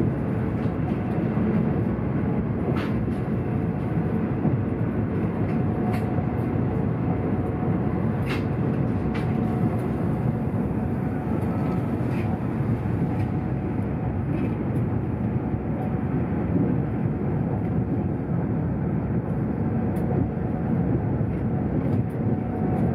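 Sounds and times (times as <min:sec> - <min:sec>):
train rumble inside cabin: 0:00.0 - 0:22.9.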